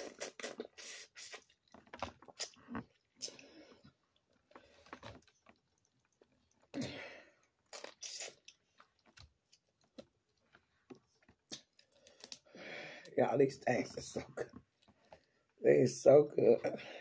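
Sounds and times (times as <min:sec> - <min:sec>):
chewing: 0:00.0 - 0:12.5, 0:14.4 - 0:15.6.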